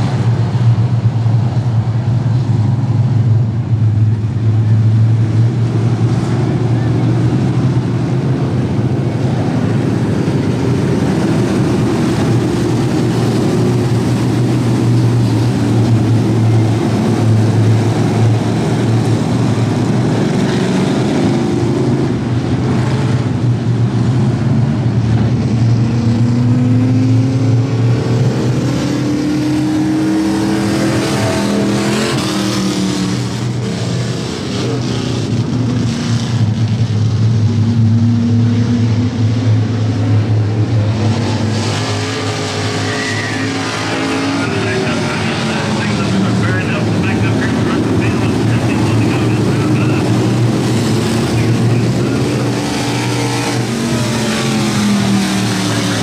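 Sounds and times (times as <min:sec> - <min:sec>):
cars passing and accelerating: 0:00.0 - 0:56.0
race car engines droning: 0:00.0 - 0:56.0.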